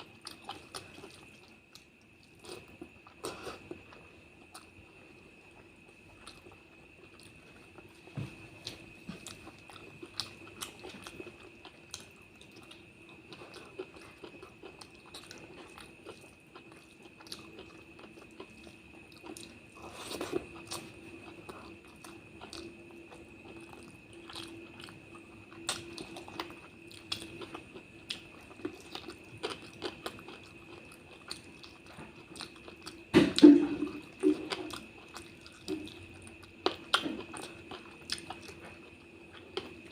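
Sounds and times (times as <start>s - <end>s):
chewing and biting food: 0.0s - 39.9s
faint high-pitched whine: 0.0s - 39.9s.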